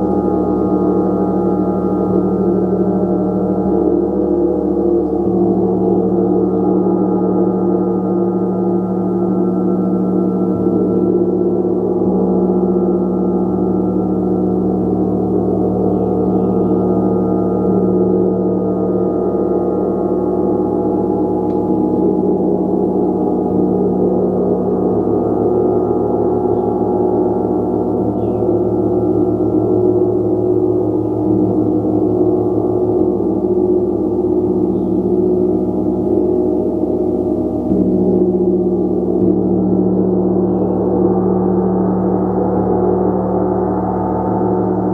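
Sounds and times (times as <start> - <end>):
shimmering gong drone: 0.0 - 44.9.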